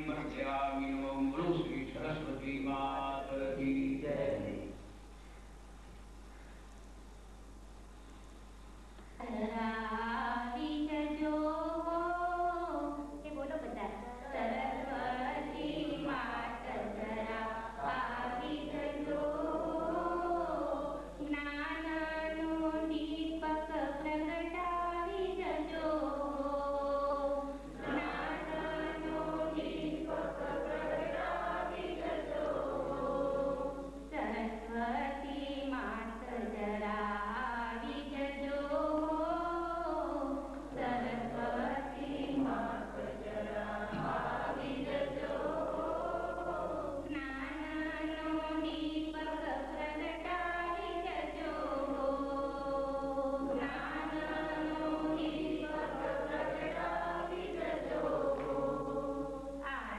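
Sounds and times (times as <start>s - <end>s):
group singing a chant: 0.0s - 4.5s, 14.1s - 59.9s
low electrical hum: 0.0s - 59.9s.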